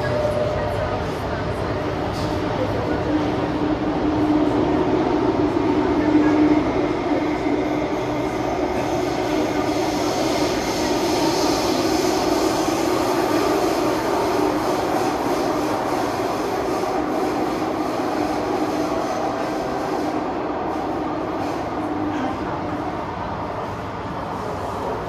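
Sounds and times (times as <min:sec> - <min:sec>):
train rumbling at speed: 0:00.0 - 0:25.0.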